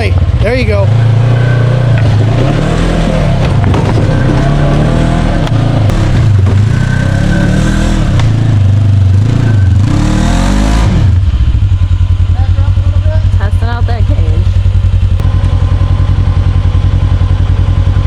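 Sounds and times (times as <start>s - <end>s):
utv engine revving and idling: 0.0s - 18.0s.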